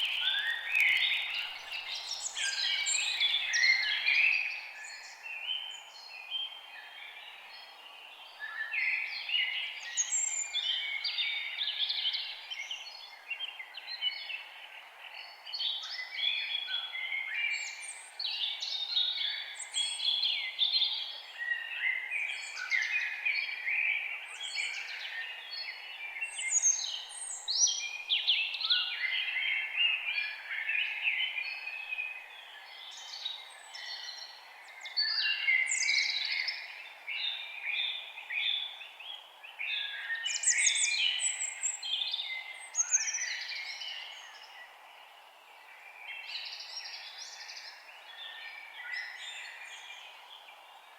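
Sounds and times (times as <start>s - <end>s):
forest birds singing and chirping: 0.0s - 50.9s.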